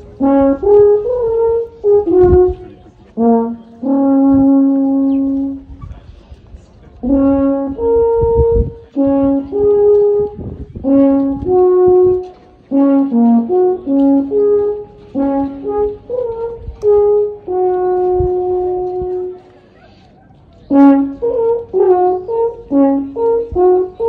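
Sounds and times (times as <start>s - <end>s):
horn playing slow tune: 0.0s - 5.8s, 7.0s - 19.5s, 20.7s - 24.0s.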